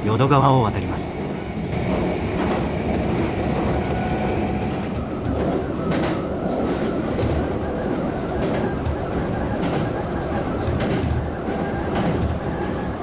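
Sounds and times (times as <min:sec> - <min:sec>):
train wheels rumbling on rails: 0:00.0 - 0:13.0
rail joint clicks: 0:00.9 - 0:13.0.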